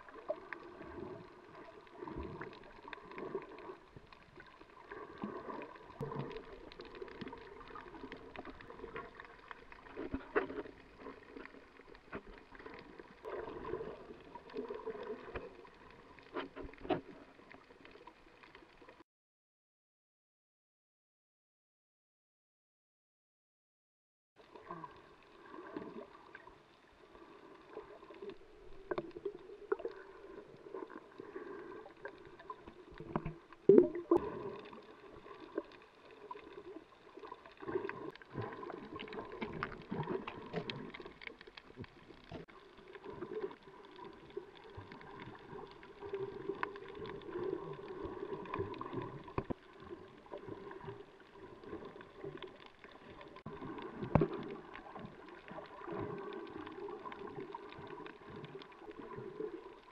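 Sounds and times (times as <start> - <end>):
faint clicks and crackles: 0.0 - 19.0, 24.4 - 59.9.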